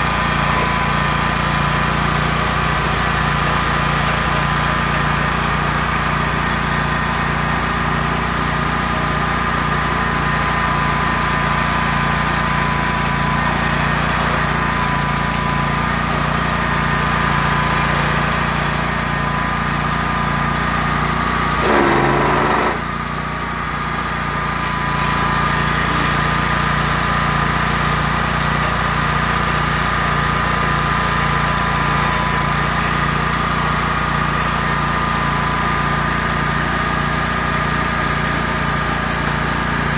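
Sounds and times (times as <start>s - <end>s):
engine dipping under load: 0.0s - 39.9s
stump grinder running: 0.0s - 39.9s.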